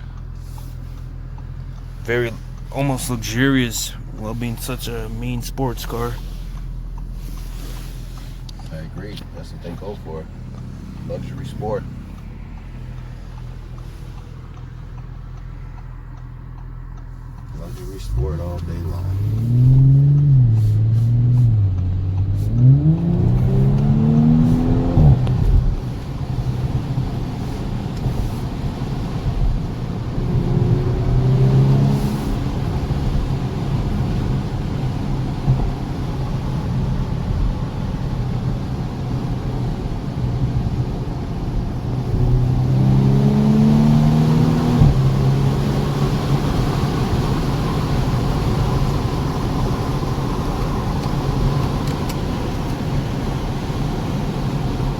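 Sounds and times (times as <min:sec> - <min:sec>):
car engine accelerating: 0:00.0 - 0:54.9
road and wind noise: 0:00.0 - 0:54.9.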